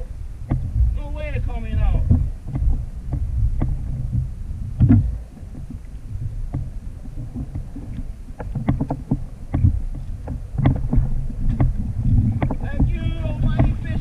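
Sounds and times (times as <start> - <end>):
wind rumble on microphone: 0.0 - 14.0
fishing gear knocking on hull: 0.4 - 14.0.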